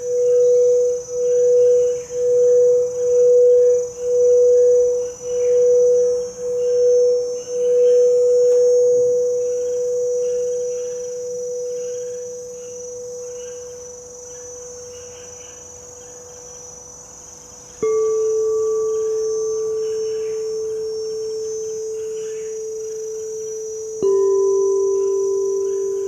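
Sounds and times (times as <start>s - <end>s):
singing bowls ringing: 0.0s - 17.0s, 17.7s - 26.0s.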